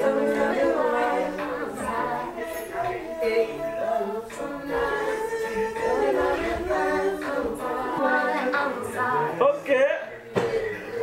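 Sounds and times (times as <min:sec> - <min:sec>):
voices singing a cappella: 0:00.0 - 0:11.0.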